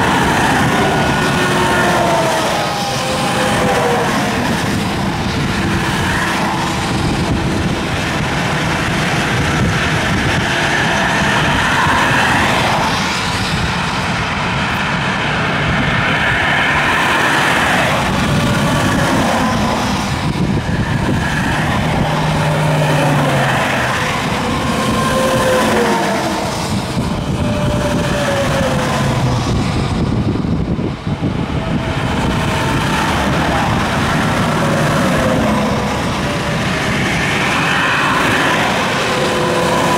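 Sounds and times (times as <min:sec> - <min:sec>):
highway traffic passing: 0:00.0 - 0:39.9
truck engine passing: 0:00.0 - 0:39.9.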